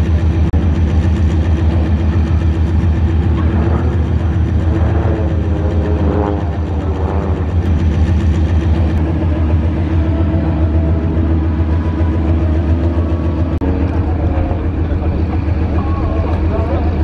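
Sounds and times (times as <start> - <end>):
diesel power unit droning: 0.0 - 17.0.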